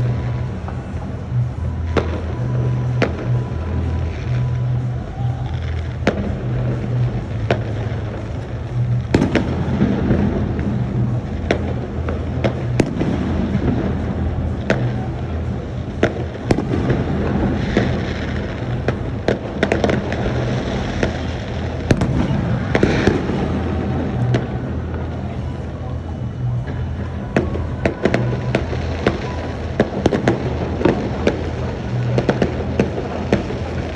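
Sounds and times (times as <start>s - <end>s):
crackling fireworks bursts: 0.0s - 33.9s
fireworks bangs: 0.0s - 33.9s.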